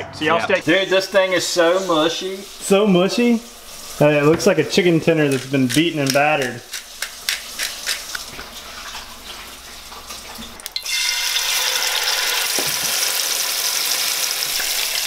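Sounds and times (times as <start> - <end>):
fish sizzling in hot oil: 0.6 - 4.7, 6.8 - 15.0.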